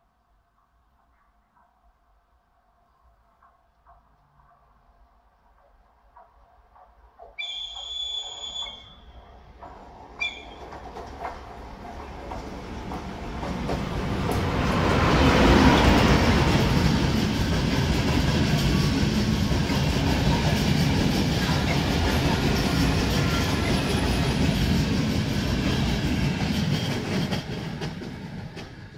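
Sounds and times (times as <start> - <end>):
electric locomotive passing: 5.5 - 28.9
train wheels rumbling on rails: 5.5 - 28.9.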